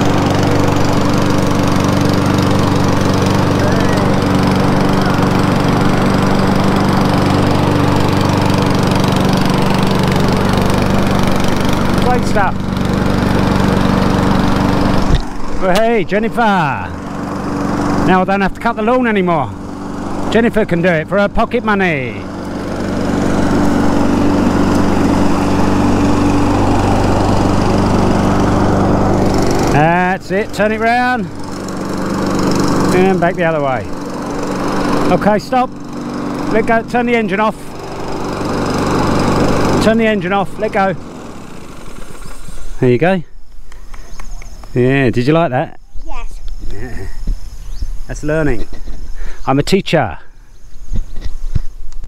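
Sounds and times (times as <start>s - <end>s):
lawn mower engine running: 0.0s - 45.5s, 46.7s - 51.7s.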